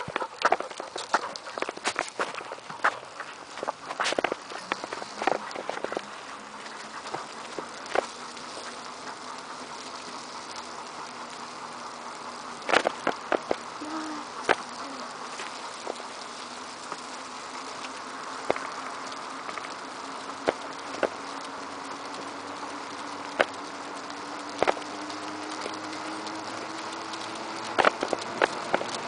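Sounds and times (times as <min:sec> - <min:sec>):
faint hum: 0:00.0 - 0:29.0
wheels rolling on asphalt: 0:00.0 - 0:29.0.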